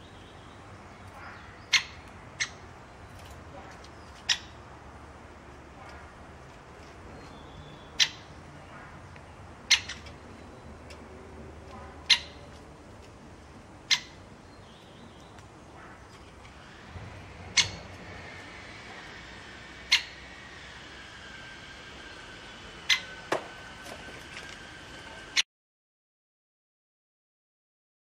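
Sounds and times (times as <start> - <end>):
faint birdsong: 0.0 - 25.4.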